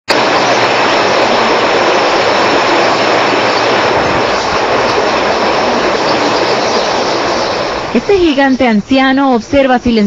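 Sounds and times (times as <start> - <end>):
river water rushing: 0.1 - 8.4.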